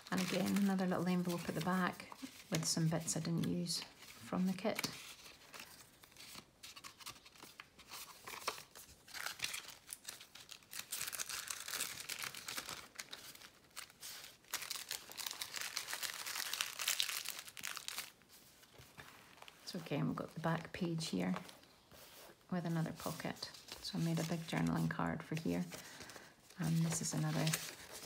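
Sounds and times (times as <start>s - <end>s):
paper rustling and crinkling: 0.0s - 28.0s.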